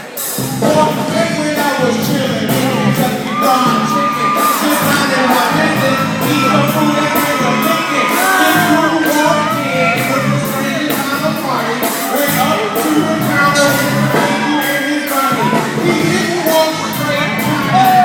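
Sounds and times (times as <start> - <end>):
loud pop music with singing: 0.0 - 18.0
crowd whooping and shouting: 2.2 - 18.0.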